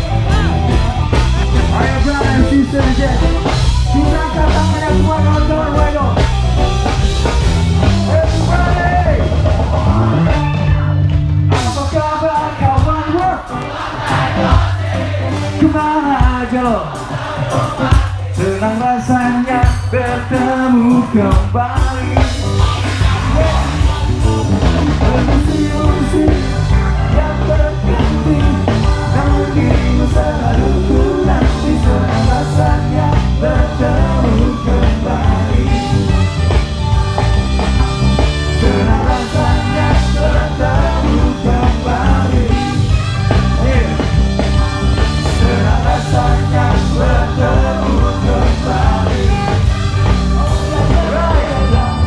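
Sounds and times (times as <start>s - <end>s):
band playing ska-rock: 0.0s - 52.0s
heavy bass line: 0.0s - 52.0s.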